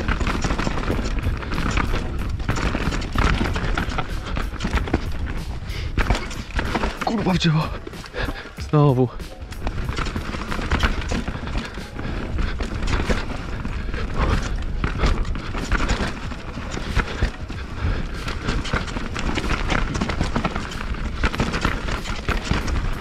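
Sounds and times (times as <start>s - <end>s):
wind rumble on microphone: 0.0s - 7.1s, 9.6s - 23.0s
mountain bike rattling: 0.0s - 23.0s.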